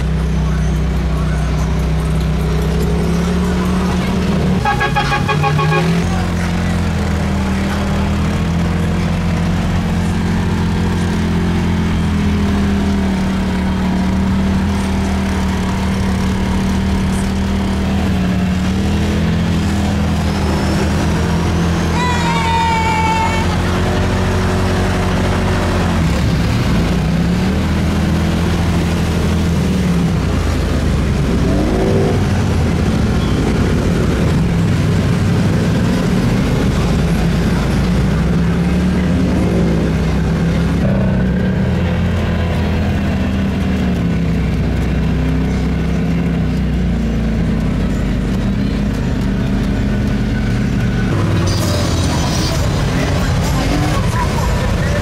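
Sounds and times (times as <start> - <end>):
atv engines revving: 0.0 - 55.0.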